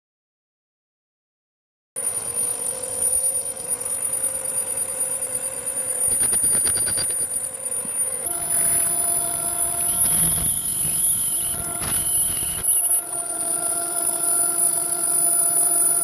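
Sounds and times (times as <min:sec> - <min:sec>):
metal lathe whining: 0:02.2 - 0:16.0.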